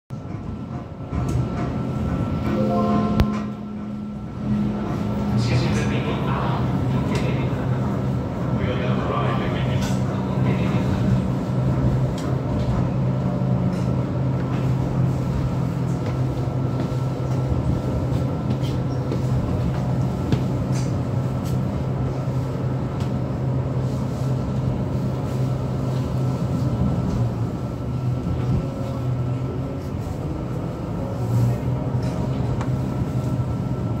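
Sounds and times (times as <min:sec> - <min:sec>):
train engine drone: 0:00.1 - 0:34.0.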